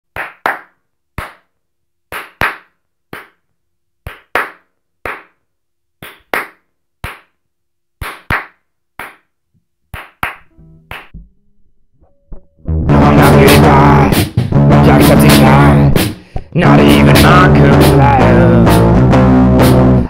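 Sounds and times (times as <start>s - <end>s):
hands clapping a rhythm: 0.1s - 7.4s, 8.0s - 11.3s, 12.9s - 20.0s.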